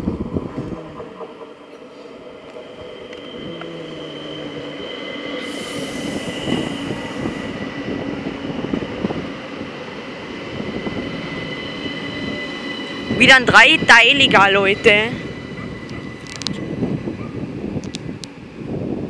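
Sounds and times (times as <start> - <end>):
electric train high whine: 0.0 - 19.0
train wheels on rails: 0.0 - 19.0.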